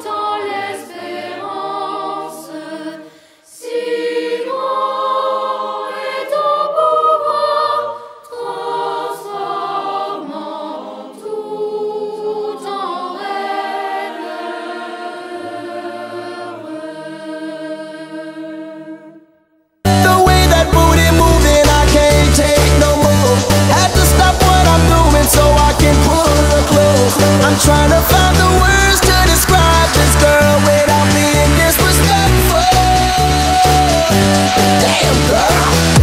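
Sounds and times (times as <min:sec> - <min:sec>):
choir singing sustained chords: 0:00.0 - 0:19.4, 0:20.2 - 0:36.0.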